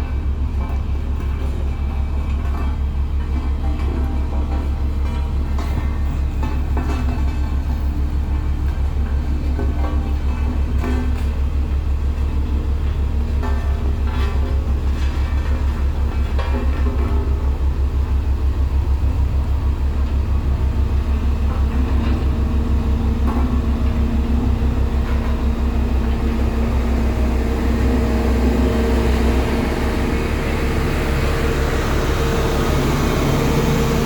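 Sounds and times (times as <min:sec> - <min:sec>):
diesel engine pulsing drone: 0:00.0 - 0:34.0.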